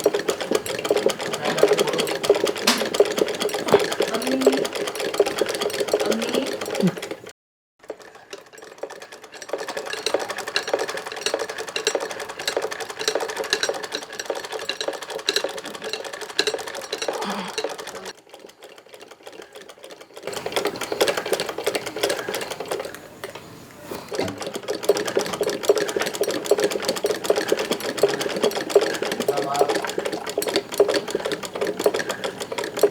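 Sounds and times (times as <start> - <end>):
sewing machine clattering: 0.0 - 32.9.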